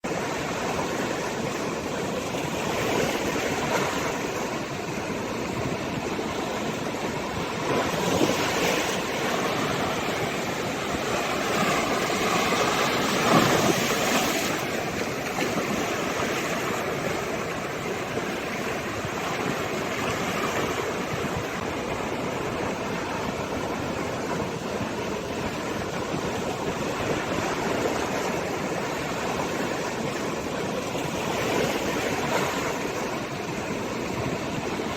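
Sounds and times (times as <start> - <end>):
sea waves washing ashore: 0.0 - 34.9
wave breaking: 0.0 - 34.9.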